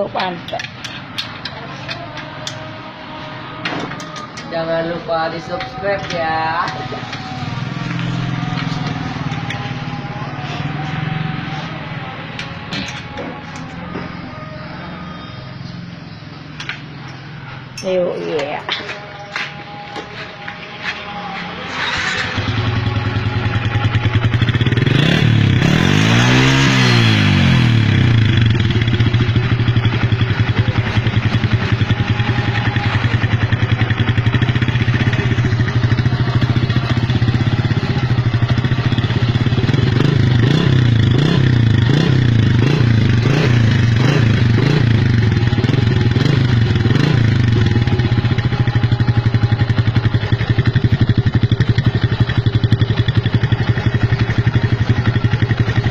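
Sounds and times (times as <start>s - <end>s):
motorcycle engine idling and revving: 0.0s - 55.9s.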